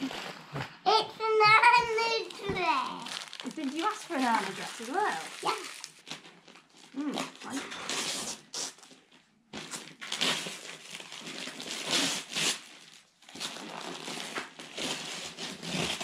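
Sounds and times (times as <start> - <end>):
wrapping paper tearing: 2.0 - 16.0.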